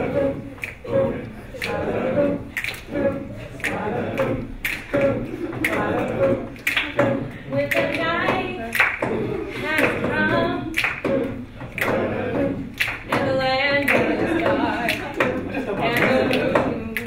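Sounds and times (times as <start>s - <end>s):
a cappella group singing: 0.0s - 17.0s
claps or snaps keeping time: 0.6s - 17.0s.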